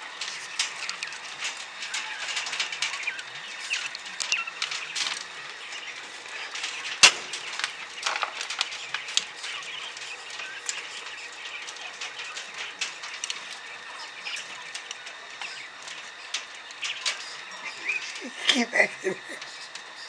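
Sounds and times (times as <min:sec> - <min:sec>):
quail pecking on wire mesh: 0:00.0 - 0:20.0.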